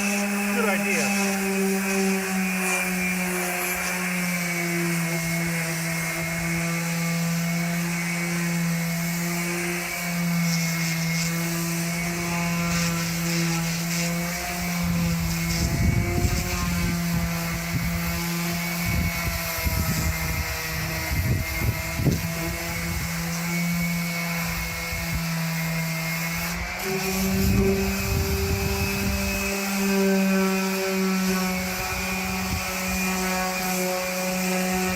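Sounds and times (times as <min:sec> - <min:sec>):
power sander motor hum: 0:00.0 - 0:34.9.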